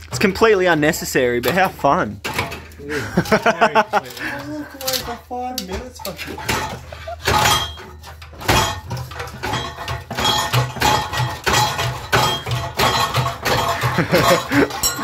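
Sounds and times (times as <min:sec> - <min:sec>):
metal pipe clanking and scraping: 0:01.4 - 0:15.0.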